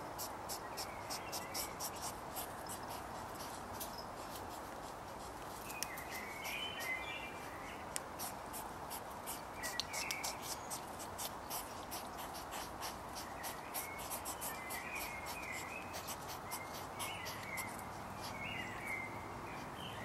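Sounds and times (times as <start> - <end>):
hedgehog chewing rubber tyre: 0.0 - 7.3, 7.9 - 19.6.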